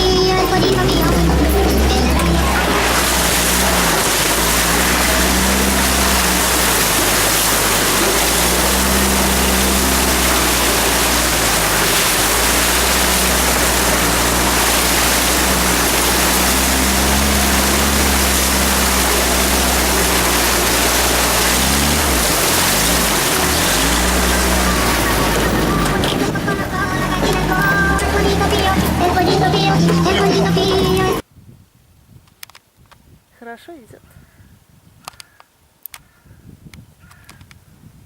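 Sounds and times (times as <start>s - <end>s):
motorboat motor humming: 0.0s - 31.2s
rush of wind and water: 0.6s - 33.3s.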